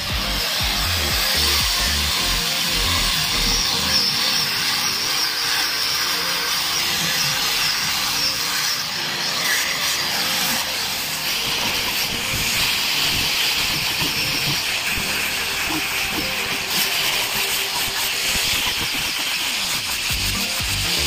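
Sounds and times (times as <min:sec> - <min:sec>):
angle grinder sanding wood: 0:00.0 - 0:21.0.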